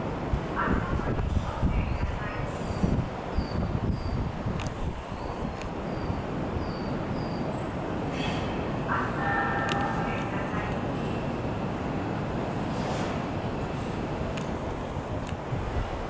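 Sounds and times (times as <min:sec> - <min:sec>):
electric train rumbling on rails: 0:00.0 - 0:16.0.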